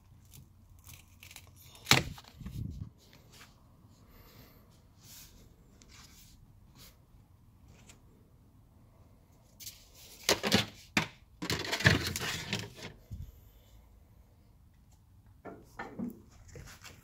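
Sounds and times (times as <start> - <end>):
rustling and scraping handling noise: 0.0 - 8.2, 9.3 - 13.5, 15.6 - 17.0.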